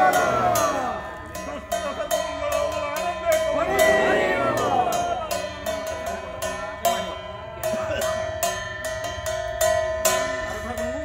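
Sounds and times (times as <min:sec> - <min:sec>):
murmur of voices: 0:00.0 - 0:09.0
metal bell ringing: 0:00.0 - 0:11.0.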